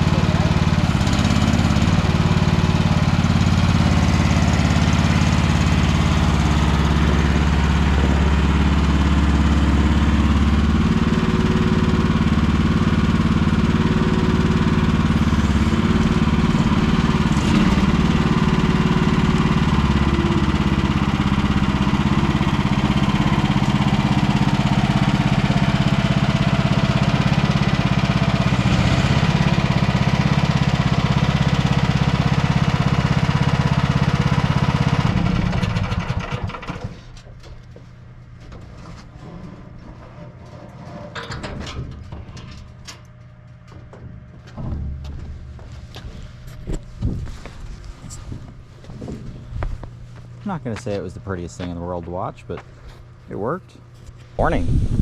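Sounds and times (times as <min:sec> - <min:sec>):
mini excavator engine running: 0:00.0 - 0:55.0.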